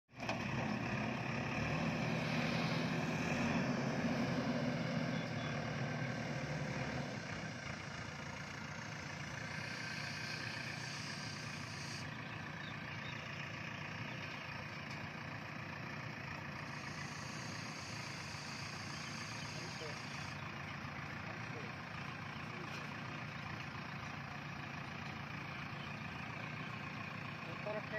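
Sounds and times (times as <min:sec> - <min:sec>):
diesel engine running: 0:00.1 - 0:27.9.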